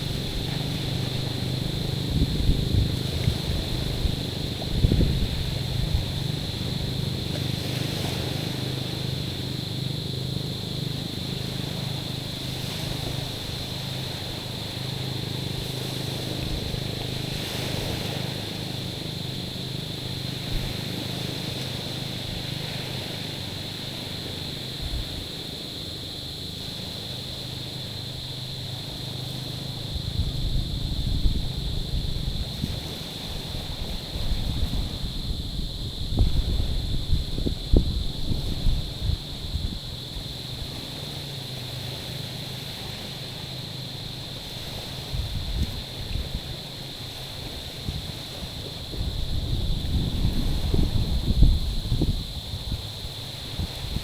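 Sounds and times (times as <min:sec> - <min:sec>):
wind rumble on microphone: 0:00.0 - 0:26.2, 0:28.2 - 0:54.0.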